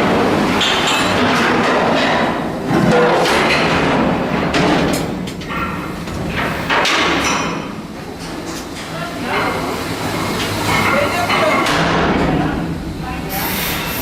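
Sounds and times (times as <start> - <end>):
loud workshop noise: 0.0 - 14.0.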